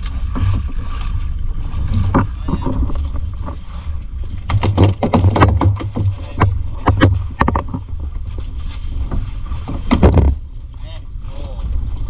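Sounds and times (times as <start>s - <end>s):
boat engine rumbling: 0.0s - 12.0s
water slapping against hull: 0.0s - 12.0s.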